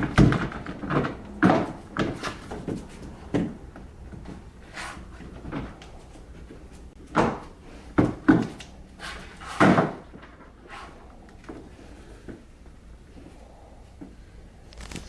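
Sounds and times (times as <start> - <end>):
dull knocks and thumps: 0.0 - 12.4.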